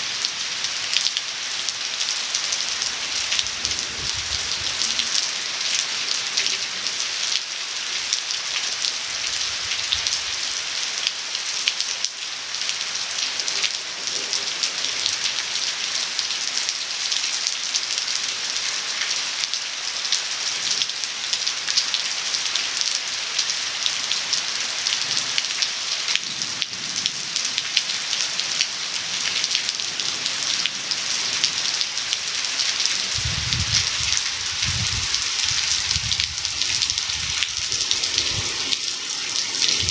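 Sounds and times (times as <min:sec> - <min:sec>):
rain on cement: 0:00.0 - 0:39.9.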